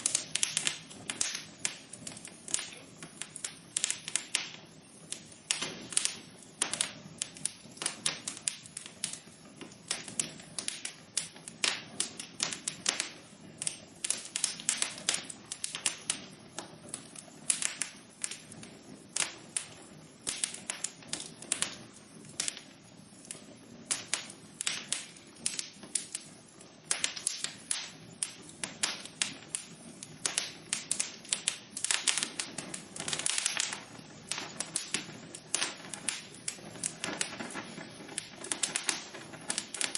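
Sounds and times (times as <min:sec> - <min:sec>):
fire hissing: 0:00.0 - 0:39.9
wood fire crackling: 0:00.0 - 0:39.9.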